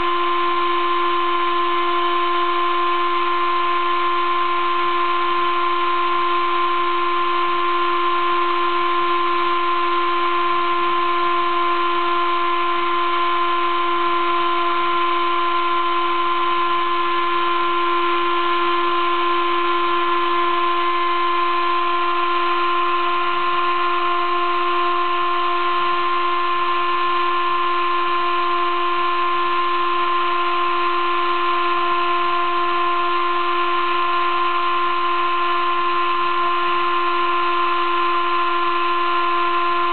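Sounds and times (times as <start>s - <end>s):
cnc mill engraving whine: 0.0s - 39.9s.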